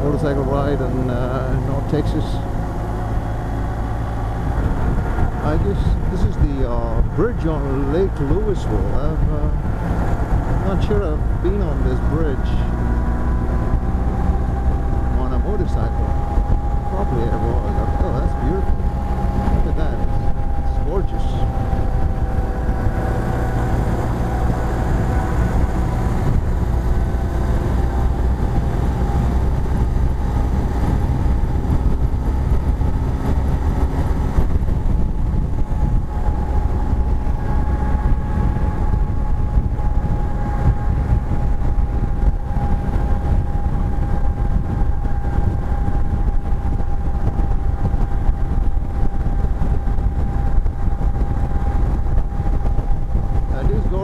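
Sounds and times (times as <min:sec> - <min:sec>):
motorcycle engine drone: 0:00.0 - 0:54.0
wind rumble: 0:00.0 - 0:54.0.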